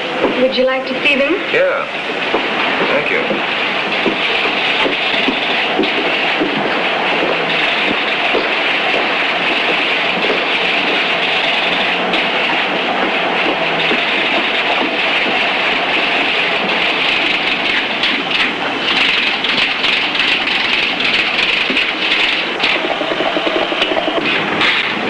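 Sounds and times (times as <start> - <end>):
typewriter clattering: 3.3 - 25.0.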